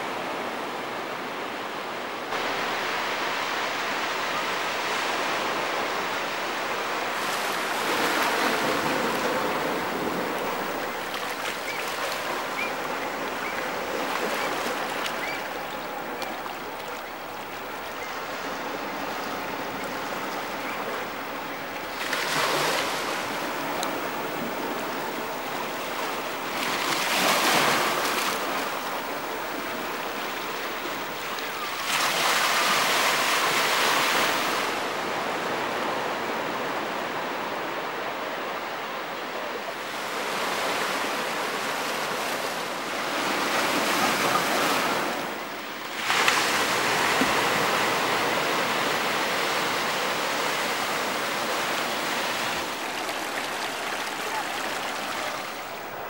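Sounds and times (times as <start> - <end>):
sea surf breaking: 2.3 - 37.4, 39.8 - 56.0.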